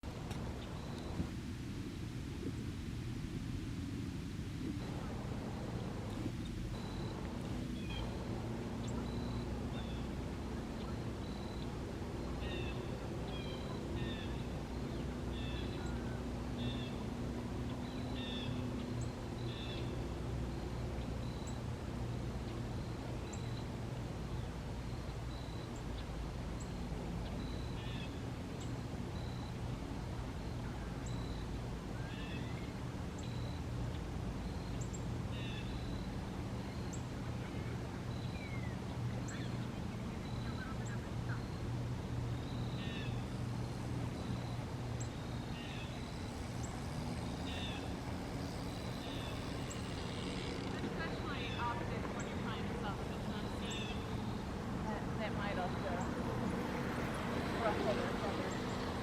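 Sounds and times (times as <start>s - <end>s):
birds chirping: 0.0s - 1.3s, 4.4s - 59.0s
steady low hum: 0.0s - 59.0s.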